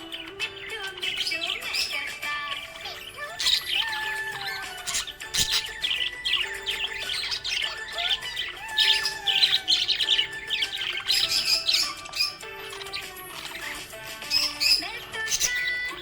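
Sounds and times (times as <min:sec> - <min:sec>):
budgies chirping and warbling: 0:00.0 - 0:16.0.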